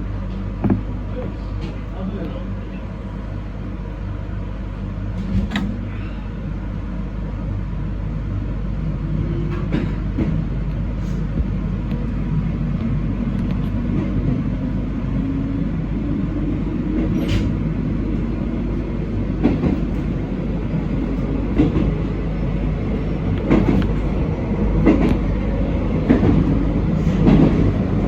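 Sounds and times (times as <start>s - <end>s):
train rumble and drive tone: 0.0s - 28.0s.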